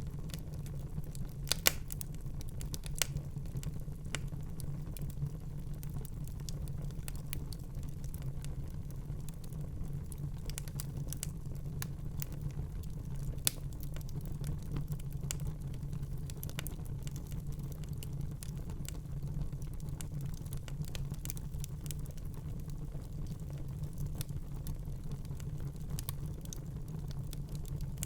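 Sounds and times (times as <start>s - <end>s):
fire crackling: 0.0s - 28.0s.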